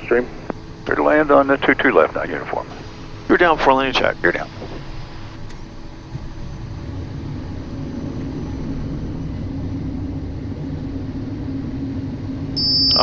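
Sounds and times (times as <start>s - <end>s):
airflow and engine rumble: 0.0s - 13.0s.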